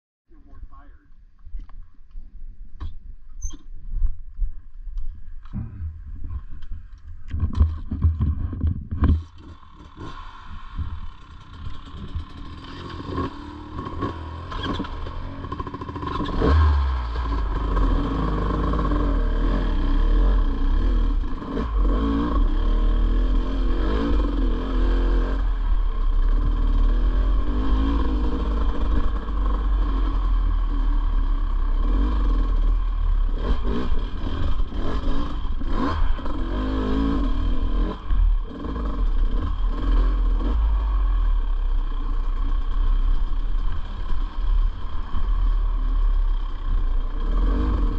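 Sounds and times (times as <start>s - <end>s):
dirt bike engine: 2.8s - 47.9s.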